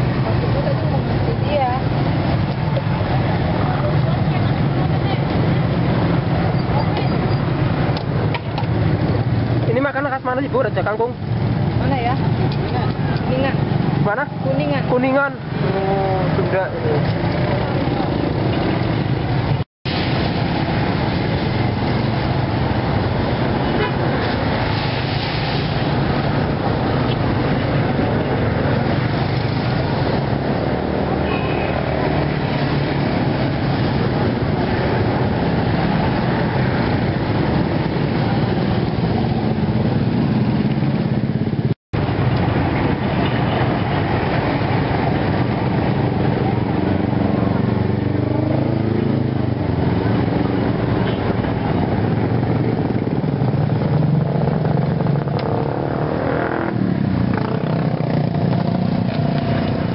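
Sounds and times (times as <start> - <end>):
traffic engines passing: 0.0 - 59.9.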